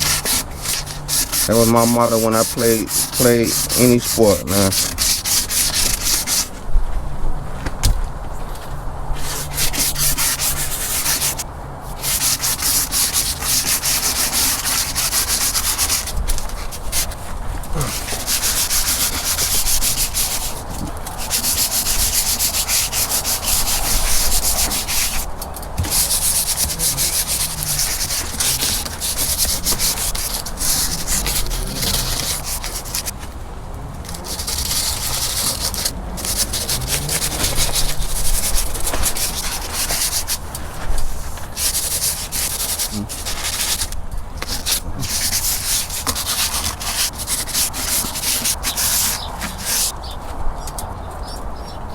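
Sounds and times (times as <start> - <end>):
sandpaper rubbing on paint: 0.0 - 6.6, 9.2 - 33.2, 34.0 - 49.9.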